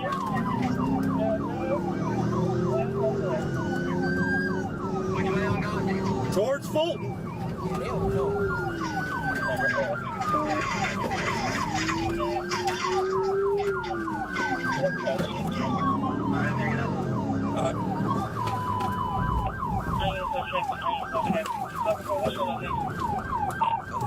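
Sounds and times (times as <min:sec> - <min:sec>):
low vehicle rumble: 0:00.0 - 0:24.0
police siren fast yelp: 0:00.0 - 0:24.0
police siren wail: 0:00.0 - 0:24.0.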